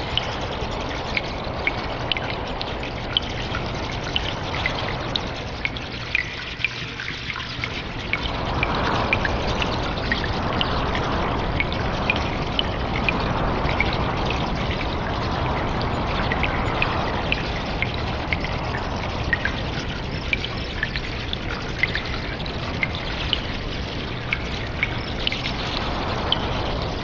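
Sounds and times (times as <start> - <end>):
sharp water drips: 0.0 - 27.0
water trickling: 0.0 - 27.0.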